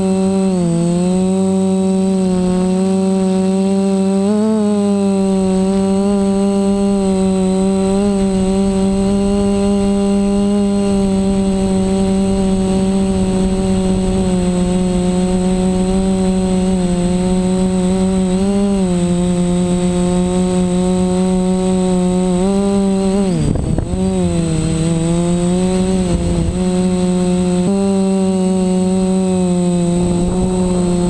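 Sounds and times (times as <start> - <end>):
quadcopter motors buzzing: 0.0 - 31.0.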